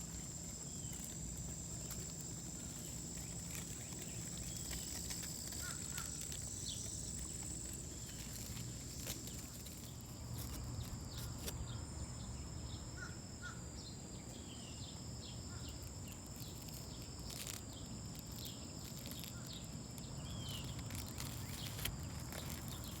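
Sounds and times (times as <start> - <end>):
small birds chirping: 0.0 - 13.2, 13.8 - 23.0.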